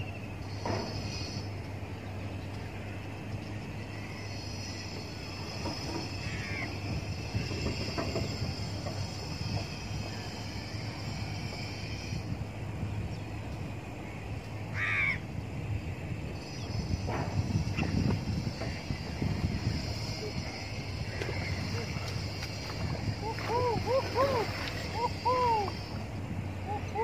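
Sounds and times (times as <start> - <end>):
low hum and rumble: 0.0 - 27.0.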